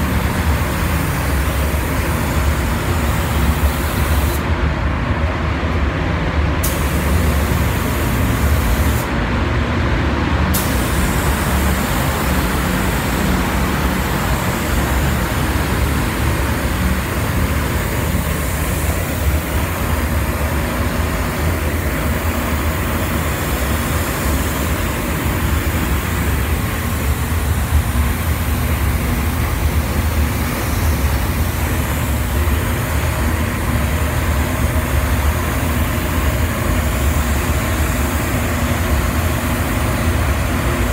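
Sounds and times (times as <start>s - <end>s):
paint spray gun hissing: 0.0s - 4.4s, 6.6s - 9.1s, 10.6s - 40.9s.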